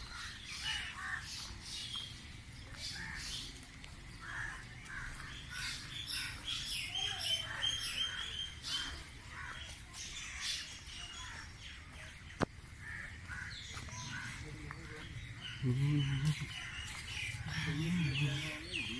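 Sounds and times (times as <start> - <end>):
birds chirping and squawking: 0.0 - 18.9.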